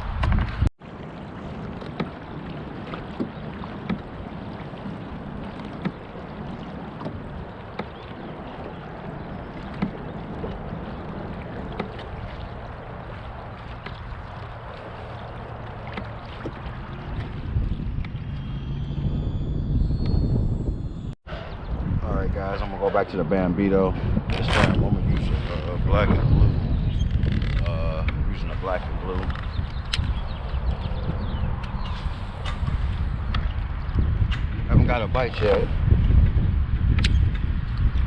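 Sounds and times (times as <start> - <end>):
wind rumble on microphone: 0.0 - 38.0.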